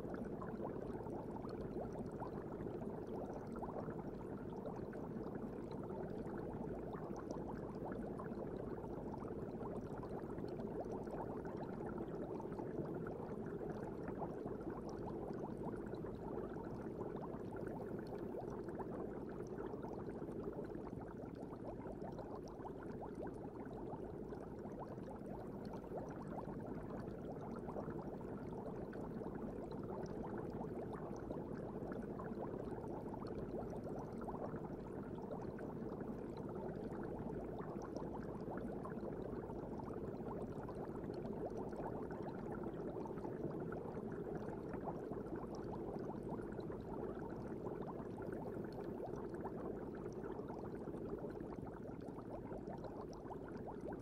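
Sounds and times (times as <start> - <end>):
muffled bubbling water hiss: 0.0 - 54.0.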